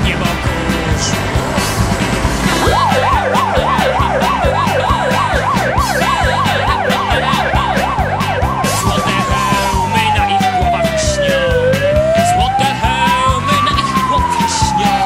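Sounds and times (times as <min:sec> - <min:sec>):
background music with drum beat: 0:00.0 - 0:15.0
fire truck siren yelping: 0:00.0 - 0:15.0.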